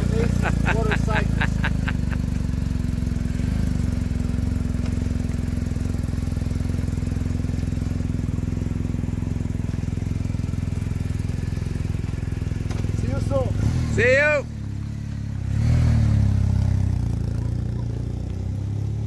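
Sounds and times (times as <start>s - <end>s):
motorcycle engine idling: 0.0s - 15.5s, 16.1s - 19.0s.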